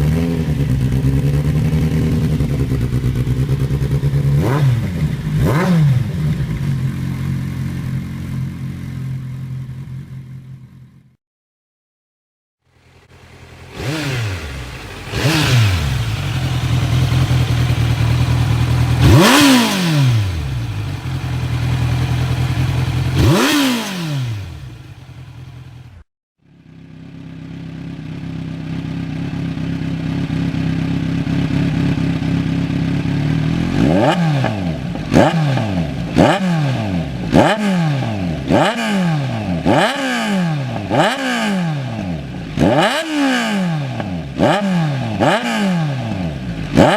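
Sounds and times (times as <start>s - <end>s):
motorcycle engine idling and revving: 0.0s - 11.2s, 12.6s - 46.9s.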